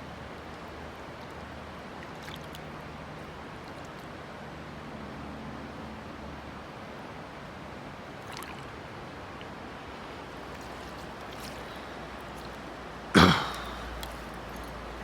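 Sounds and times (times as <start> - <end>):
stream flowing: 0.0 - 4.6, 6.4 - 15.0.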